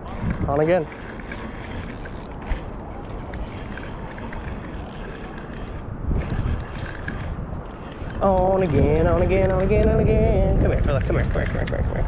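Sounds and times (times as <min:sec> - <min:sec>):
spinning reel being cranked: 0:00.0 - 0:10.0.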